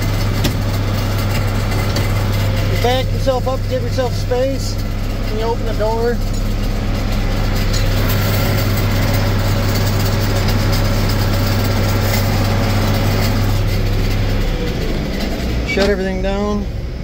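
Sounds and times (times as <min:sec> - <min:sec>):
tractor diesel engine hum: 0:00.0 - 0:17.0.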